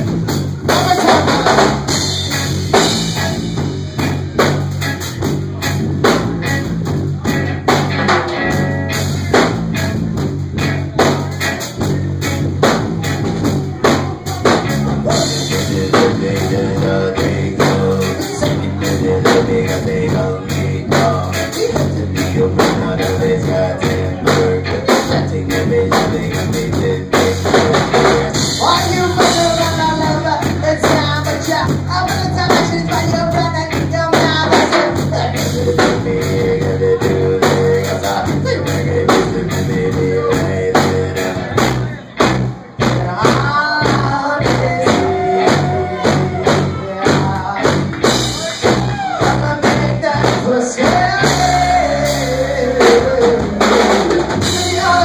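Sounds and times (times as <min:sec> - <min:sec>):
drum kit steady beat: 0:00.0 - 0:55.0
electric bass: 0:00.0 - 0:55.0
electric guitar: 0:00.0 - 0:55.0.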